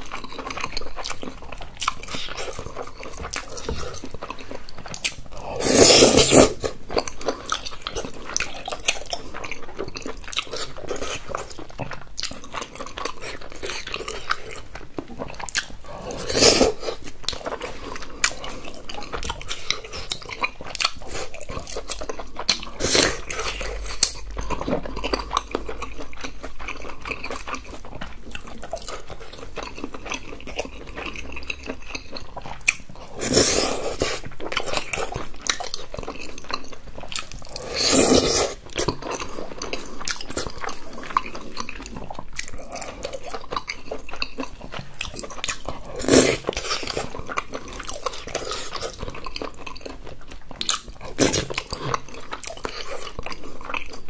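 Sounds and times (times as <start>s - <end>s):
close chewing with wet smacks: 0.0s - 5.6s, 6.2s - 54.0s.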